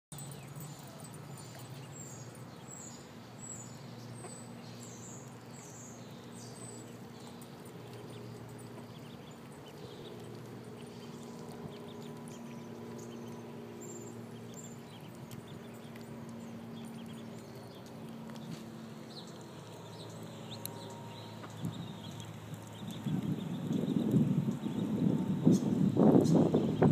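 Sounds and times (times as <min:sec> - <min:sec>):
steady low hum: 0:00.1 - 0:26.9
ducklings peeping: 0:00.4 - 0:26.9.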